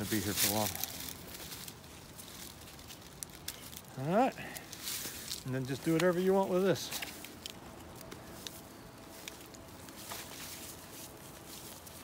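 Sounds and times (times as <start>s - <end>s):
rope rustling: 0.0s - 12.0s.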